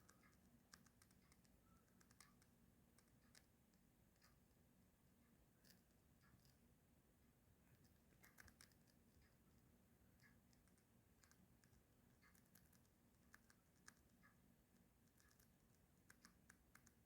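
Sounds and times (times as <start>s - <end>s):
faint clicks and ticks: 0.0s - 17.0s.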